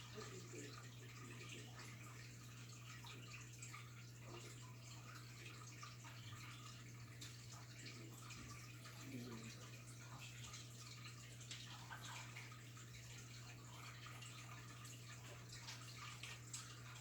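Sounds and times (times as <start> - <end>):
water drips and trickles: 0.0 - 17.0.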